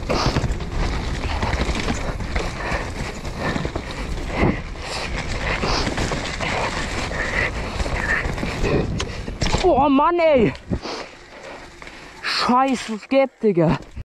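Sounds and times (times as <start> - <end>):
bike clattering over bumps: 0.0 - 14.0
tyres on dirt: 0.0 - 14.0.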